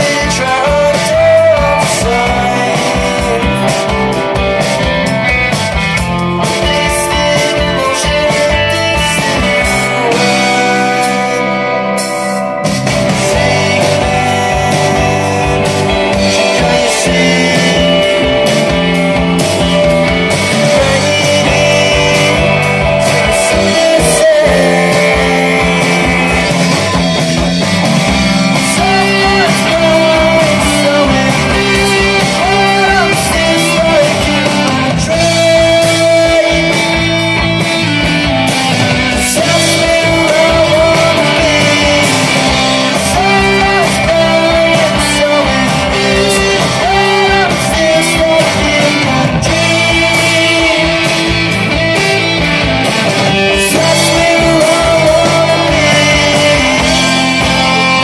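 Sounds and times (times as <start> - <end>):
bass guitar: 0.0 - 58.0
distorted electric guitars: 0.0 - 58.0
drum kit: 0.0 - 58.0
lead vocalist singing: 0.0 - 58.0.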